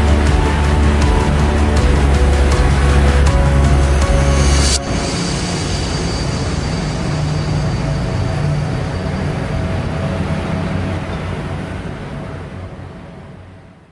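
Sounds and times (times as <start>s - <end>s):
train rumbling past: 0.0s - 13.9s.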